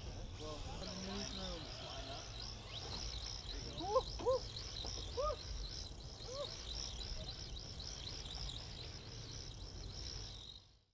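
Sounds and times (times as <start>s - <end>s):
rhythmic high-pitched chirping: 0.3s - 10.7s.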